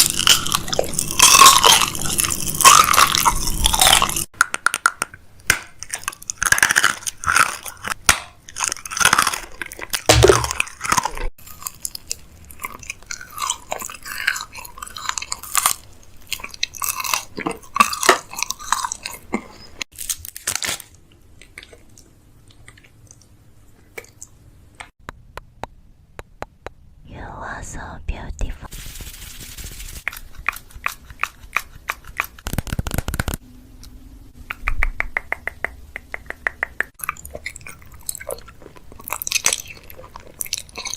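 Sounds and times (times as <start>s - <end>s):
crackling and crunching of items: 0.0s - 24.9s, 28.7s - 33.4s, 36.9s - 40.9s.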